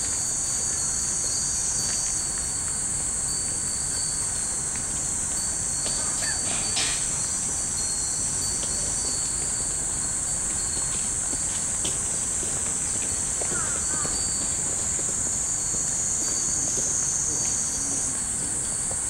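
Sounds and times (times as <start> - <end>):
cicadas buzzing: 0.0 - 19.0
wind chimes tinkling: 0.0 - 19.0.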